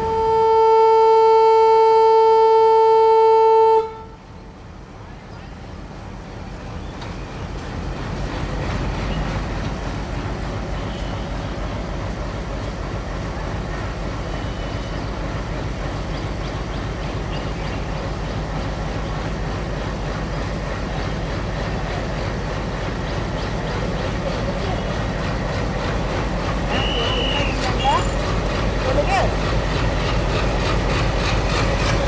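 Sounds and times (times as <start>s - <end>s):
diesel locomotive engine running: 0.0s - 32.0s.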